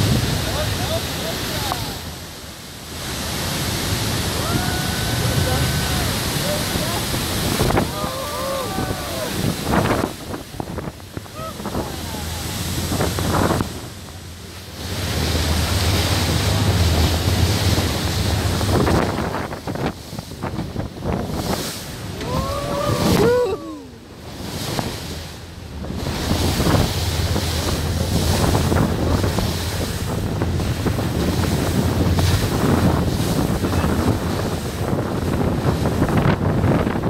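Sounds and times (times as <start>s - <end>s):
rushing water: 0.0s - 37.0s
speedboat engine hum: 0.0s - 37.0s
wind buffeting microphone: 0.0s - 37.0s.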